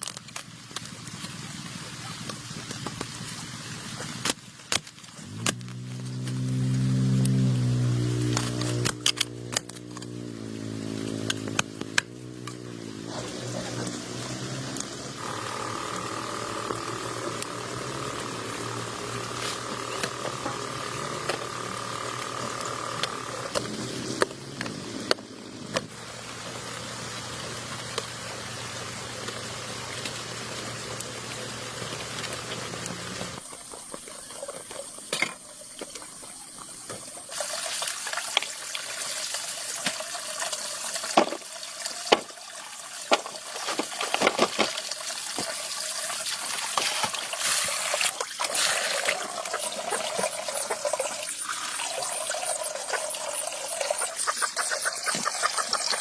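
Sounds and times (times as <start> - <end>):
water running and trickling: 4.9 - 56.0.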